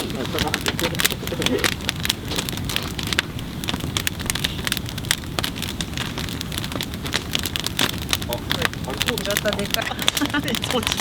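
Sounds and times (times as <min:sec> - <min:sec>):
low rush of flame: 0:00.0 - 0:11.0
wood crackling and popping: 0:00.0 - 0:11.0.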